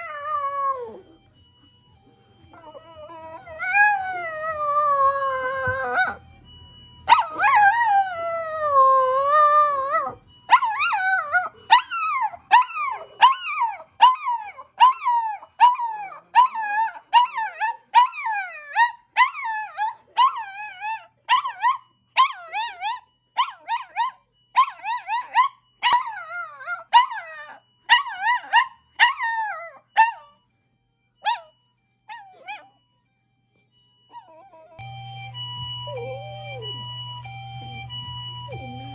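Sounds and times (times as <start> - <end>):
ambulance siren: 0.0 - 38.9.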